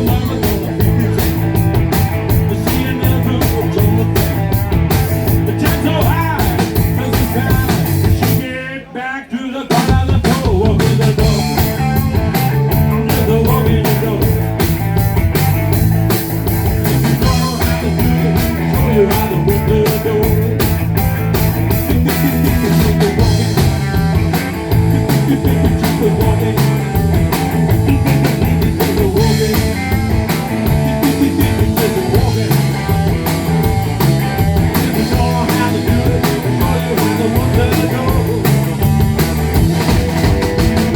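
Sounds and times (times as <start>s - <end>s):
rock music: 0.0s - 8.9s, 9.6s - 40.9s.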